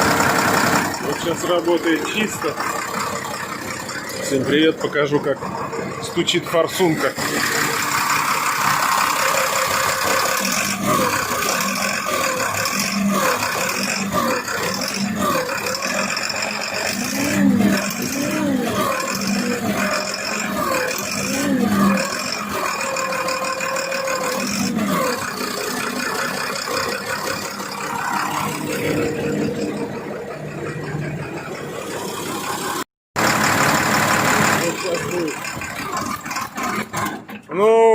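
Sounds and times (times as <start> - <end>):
diesel engine revving: 0.0 - 37.9.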